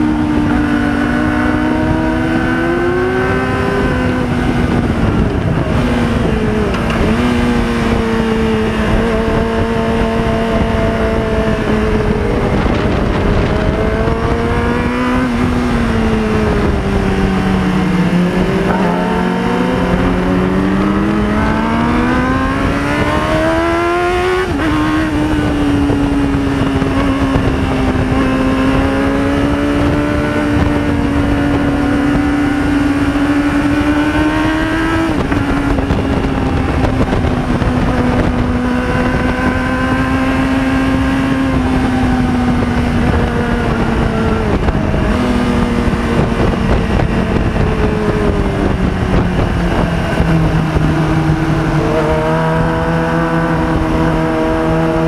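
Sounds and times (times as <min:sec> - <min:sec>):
constant rushing noise: 0:00.0 - 0:55.0
motorcycle engine revving: 0:00.0 - 0:55.0.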